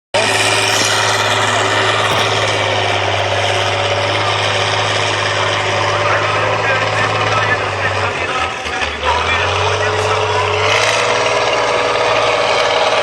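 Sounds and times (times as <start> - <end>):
truck engine running steadily: 0.2 - 13.0.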